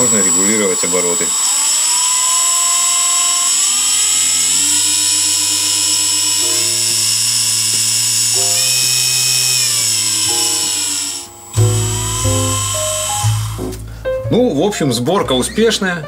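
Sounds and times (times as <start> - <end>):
spindle motor whine: 0.0 - 13.8.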